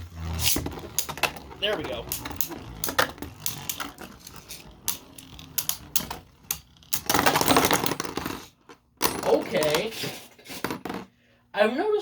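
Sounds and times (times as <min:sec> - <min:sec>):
spinning tops grinding and rattling: 0:00.0 - 0:11.0
spinning tops clicking and knocking: 0:00.4 - 0:11.0.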